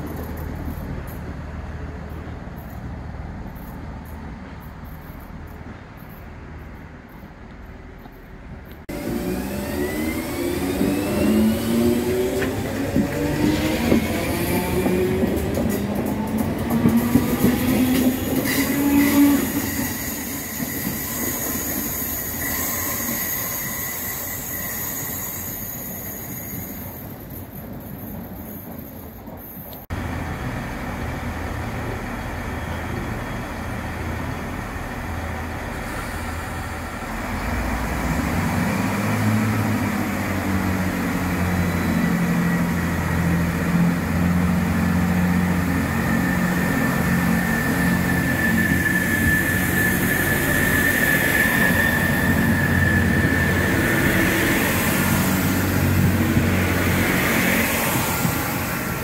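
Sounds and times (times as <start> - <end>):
diesel train engines accelerating: 0.0 - 59.0.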